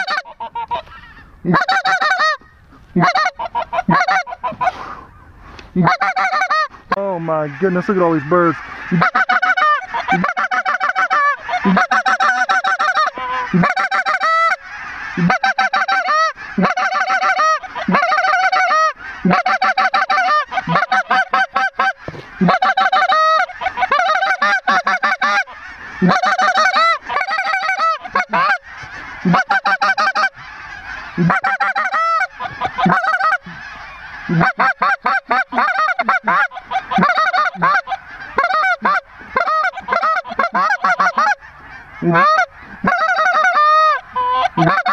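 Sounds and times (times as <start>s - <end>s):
goose call honks and clucks: 0.0s - 44.9s.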